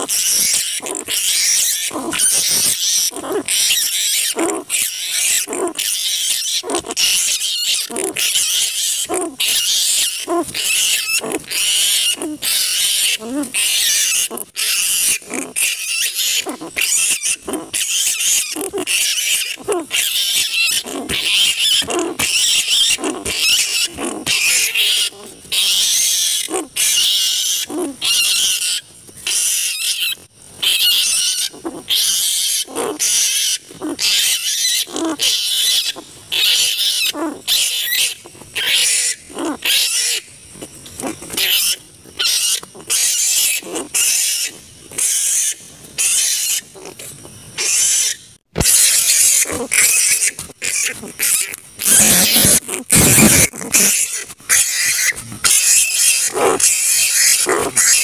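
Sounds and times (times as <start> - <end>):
flying foxes screeching: 0.0 - 40.3, 41.0 - 46.7, 47.6 - 58.0.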